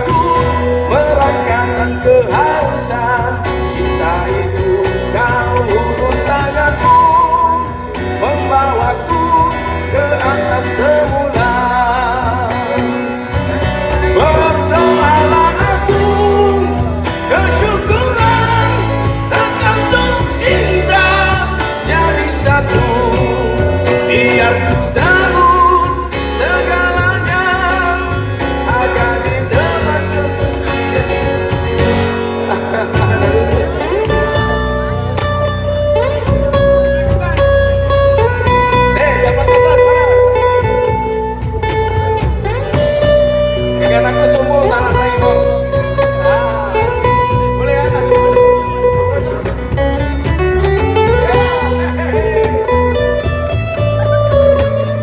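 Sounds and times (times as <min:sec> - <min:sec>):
live rock band playing: 0:00.0 - 0:55.0
man singing into microphone: 0:00.0 - 0:55.0.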